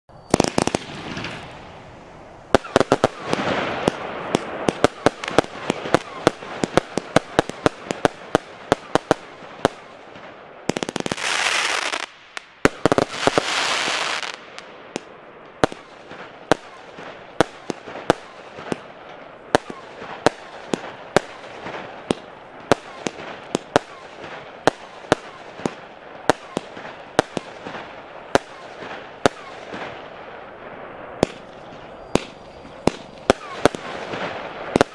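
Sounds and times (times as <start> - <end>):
fireworks crackling: 0.1 - 34.9
fireworks shots and bursts: 0.3 - 34.9.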